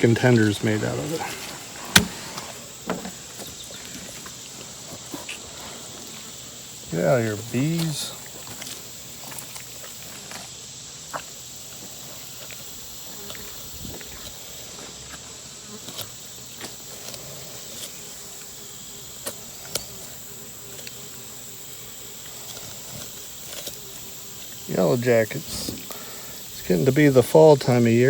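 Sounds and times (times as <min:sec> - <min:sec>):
wasps buzzing: 0:00.0 - 0:04.8, 0:05.8 - 0:11.5, 0:12.2 - 0:28.0
high insect trill: 0:00.0 - 0:28.0.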